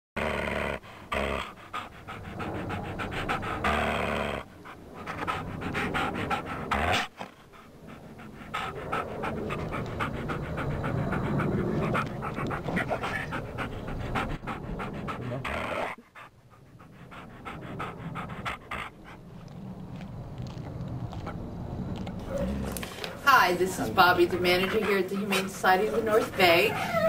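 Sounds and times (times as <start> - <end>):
dog panting: 0.2 - 27.0.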